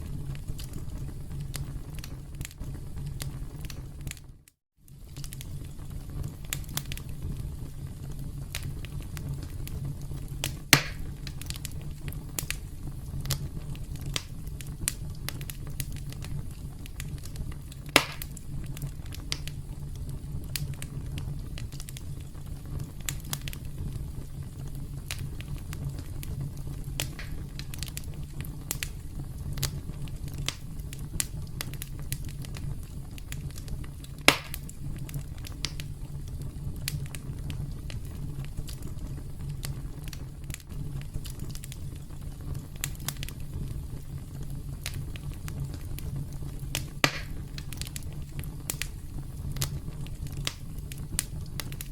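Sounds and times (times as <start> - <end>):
campfire crackling: 0.0 - 51.9
loud sharp pops of fire: 0.0 - 51.9.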